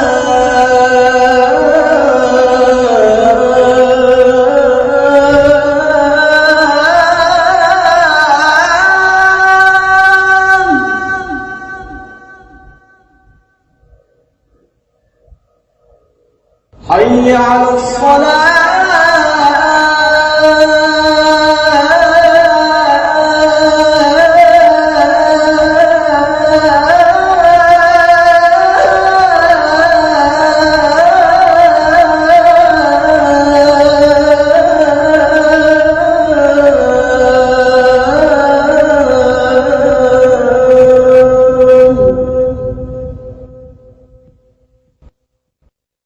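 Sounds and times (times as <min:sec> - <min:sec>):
man chanting call to prayer: 0:00.0 - 0:13.2, 0:16.8 - 0:44.2.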